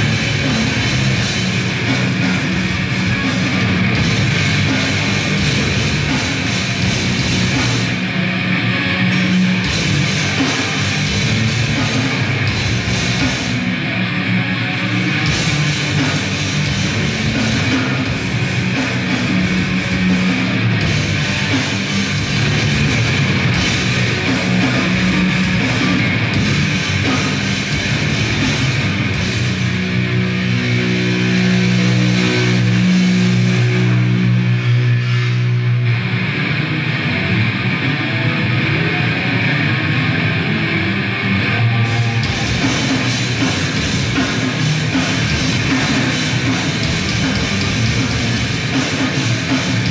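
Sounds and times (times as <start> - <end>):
bass guitar: 0.0 - 49.9
distorted guitar: 0.0 - 49.9
drums: 0.0 - 49.9.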